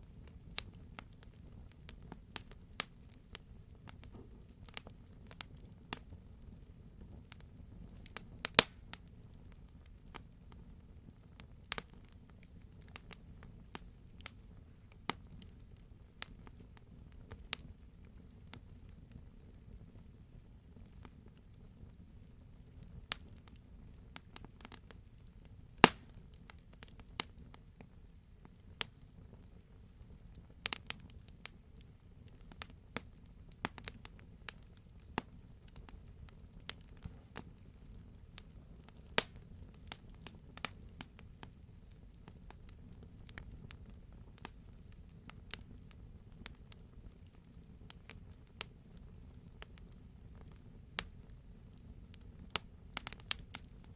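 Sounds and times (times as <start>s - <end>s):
campfire crackling and popping: 0.0s - 53.9s
low rumble of fire: 0.0s - 53.9s.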